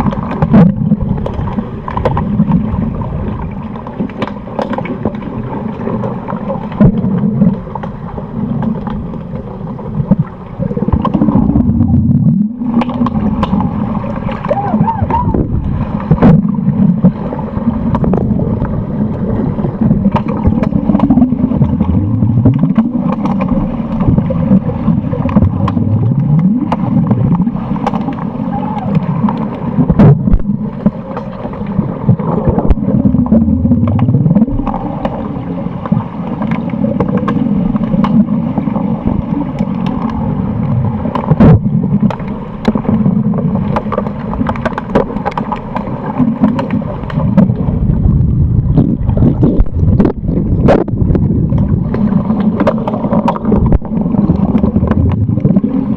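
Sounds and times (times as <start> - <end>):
muffled underwater rumble and bubbles: 0.0 - 55.9.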